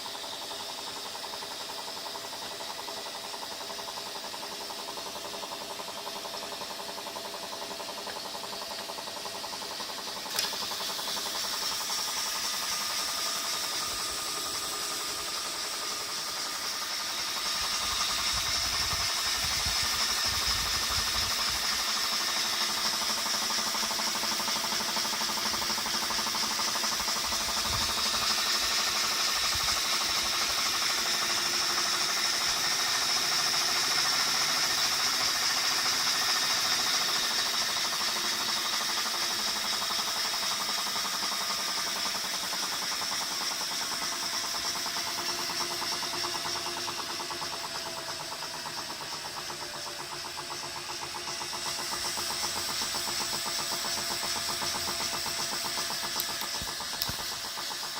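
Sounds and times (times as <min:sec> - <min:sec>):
motor knocking rapidly: 0:00.0 - 0:57.9.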